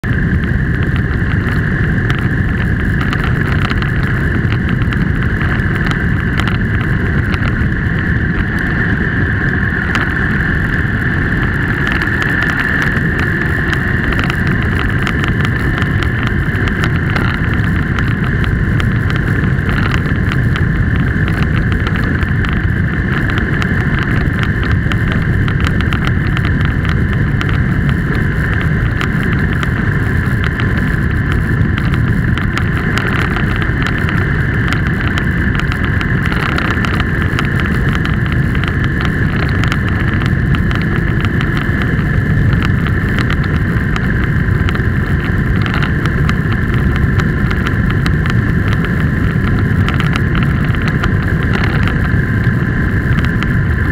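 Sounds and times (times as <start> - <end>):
engine and tyre drone: 0.0 - 53.9
wind on microphone: 0.0 - 53.9.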